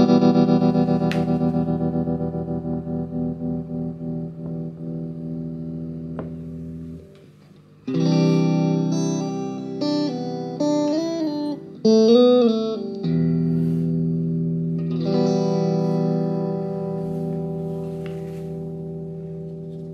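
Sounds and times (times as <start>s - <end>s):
electric guitar with tremolo: 0.0s - 19.9s.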